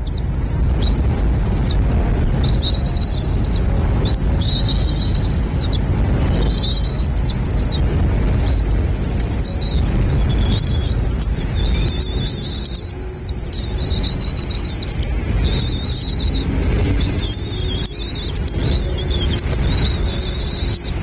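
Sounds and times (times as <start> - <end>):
bird calling: 0.0 - 21.0
steady low rumble: 0.0 - 21.0.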